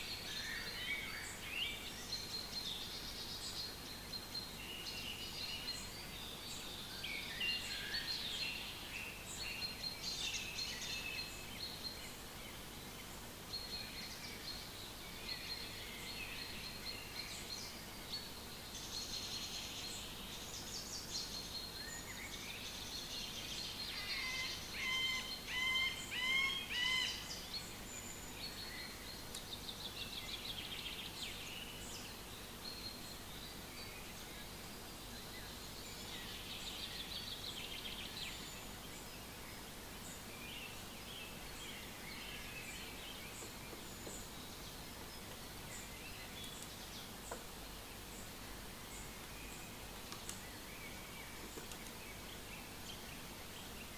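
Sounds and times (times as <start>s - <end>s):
birds singing: 0.0s - 53.9s.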